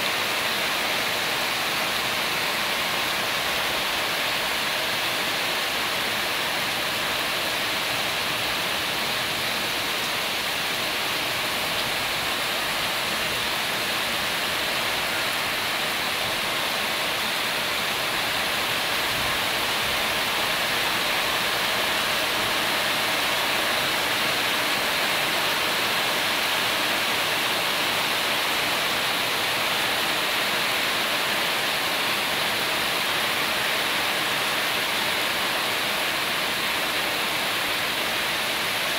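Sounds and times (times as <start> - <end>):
heavy rain on tin roofs: 0.0 - 38.9.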